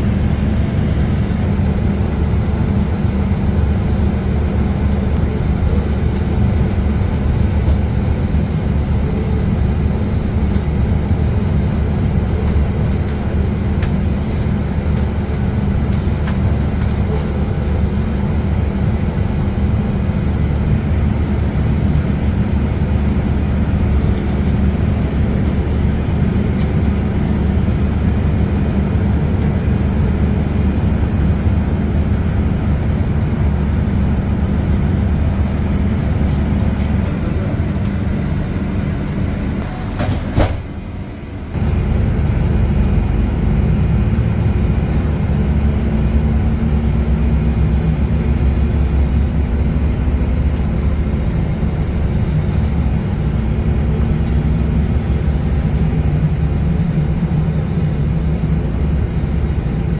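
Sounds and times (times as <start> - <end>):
passenger train rumbling: 0.0 - 59.9.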